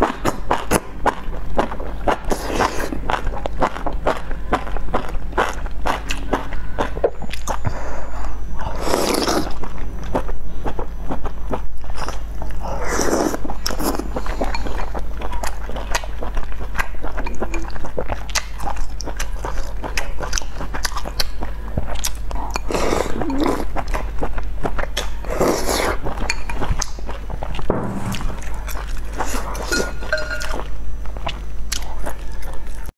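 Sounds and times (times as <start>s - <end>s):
chewing with crackling clicks: 0.0s - 27.7s, 28.6s - 32.9s
steady low hum: 0.0s - 32.9s.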